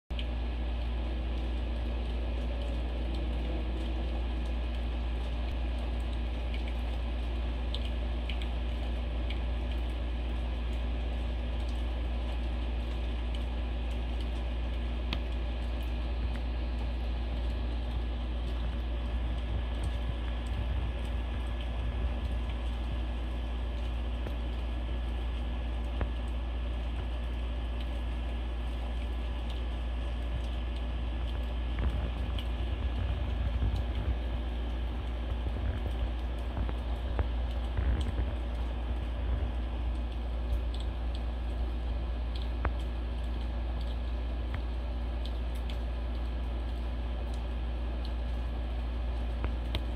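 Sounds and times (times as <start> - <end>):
low background hum: 0.1 - 49.9.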